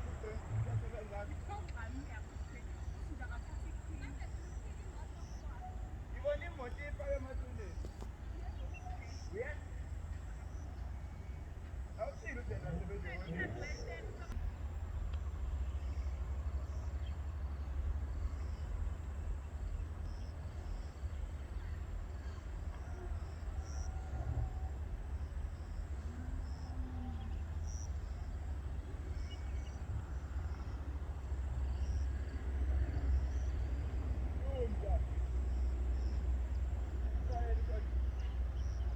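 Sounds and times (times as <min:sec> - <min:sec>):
faint high insect chirps: 0:00.0 - 0:38.9.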